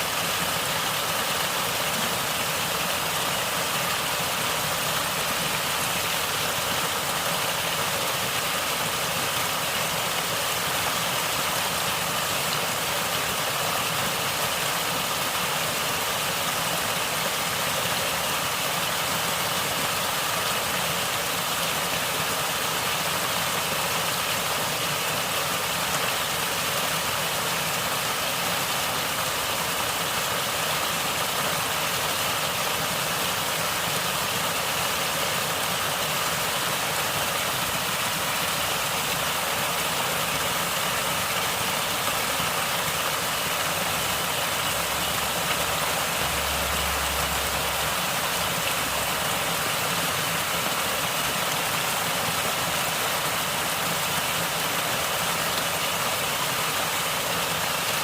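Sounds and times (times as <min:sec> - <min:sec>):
stream water flowing and gurgling: 0:00.0 - 0:58.0.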